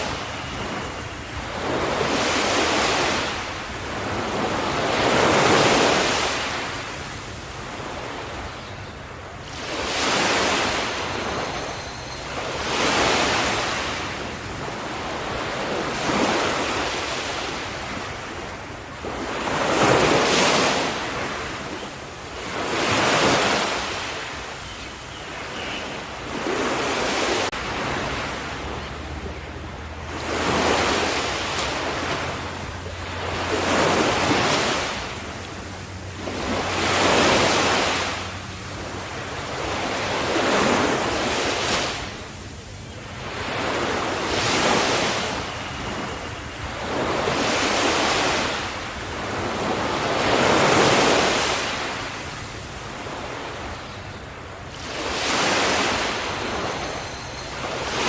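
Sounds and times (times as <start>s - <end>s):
ocean waves washing onto shore: 0.0s - 58.0s.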